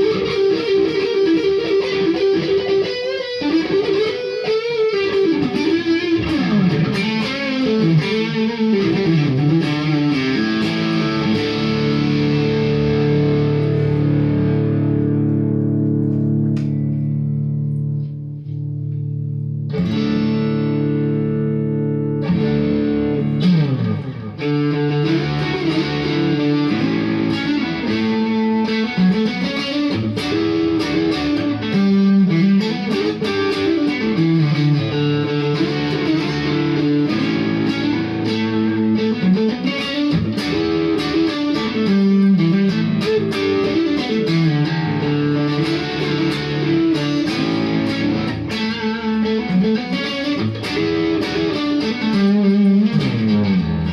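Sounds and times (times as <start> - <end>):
overdriven electric guitar: 0.0 - 53.9.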